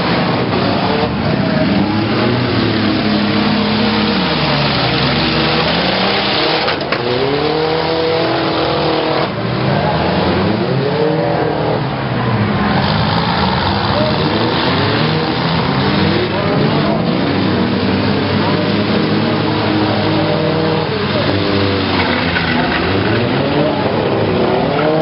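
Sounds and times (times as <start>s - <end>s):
din of engines: 0.0s - 25.0s
truck engines revving: 0.0s - 25.0s.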